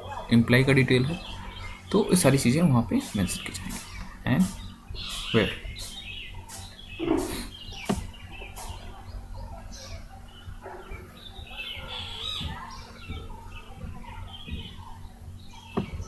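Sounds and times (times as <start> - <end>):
birds chirping: 0.0 - 16.0
electrical hum: 0.0 - 16.0.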